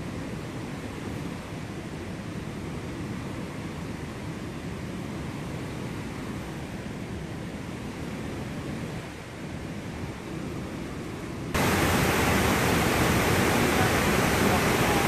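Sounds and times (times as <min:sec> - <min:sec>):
rushing waterfall: 0:00.0 - 0:15.0
wind rumbling on microphone: 0:00.0 - 0:15.0.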